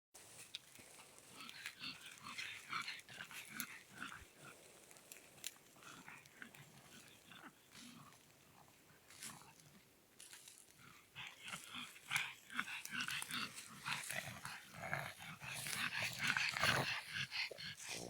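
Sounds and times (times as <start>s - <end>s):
crackly rustling: 0.2s - 18.0s
dogs growling and snuffling: 0.2s - 18.0s.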